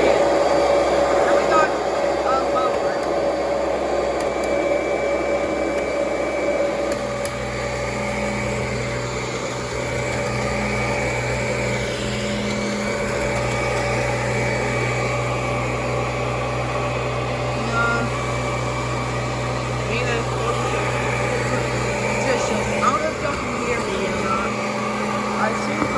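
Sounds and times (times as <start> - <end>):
upright vacuum cleaner running: 0.0 - 25.9.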